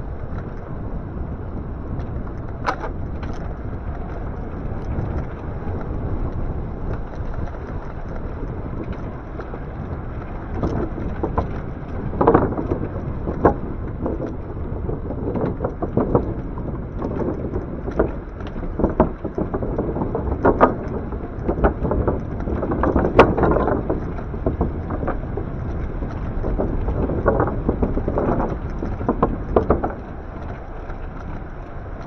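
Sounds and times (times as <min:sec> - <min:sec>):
bike knocks and rattles: 0:00.0 - 0:32.0
road noise: 0:00.0 - 0:32.0
wind rumbling on microphone: 0:00.0 - 0:32.0.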